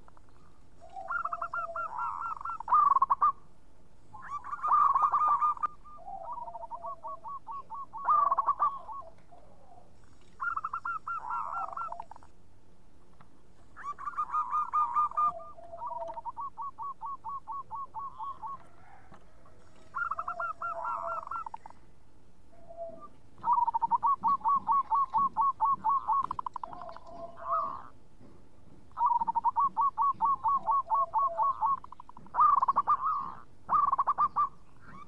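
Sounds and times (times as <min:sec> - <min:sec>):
dove cooing: 0:00.0 - 0:03.4, 0:04.1 - 0:12.3, 0:13.7 - 0:21.9, 0:22.5 - 0:28.0, 0:28.9 - 0:35.0.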